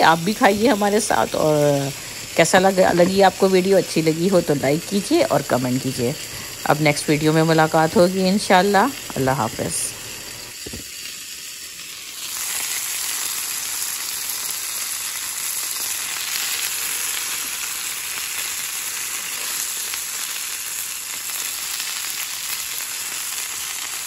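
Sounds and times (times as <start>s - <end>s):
chicken sizzling in oil: 0.0s - 24.0s.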